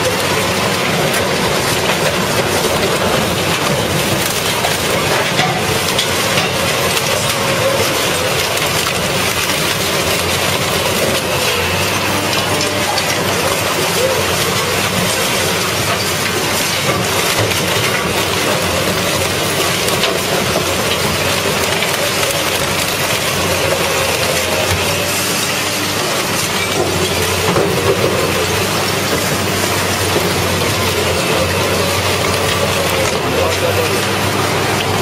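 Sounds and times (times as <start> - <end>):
shredder grinding and crunching metal: 0.0 - 35.0.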